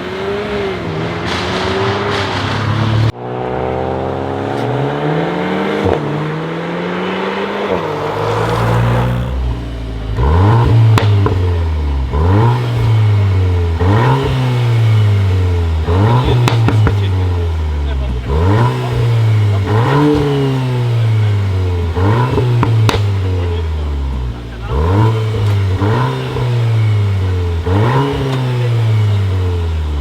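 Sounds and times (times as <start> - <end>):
exhaust cracks: 0.0 - 3.2, 5.7 - 30.0
car engine revving: 0.0 - 30.0.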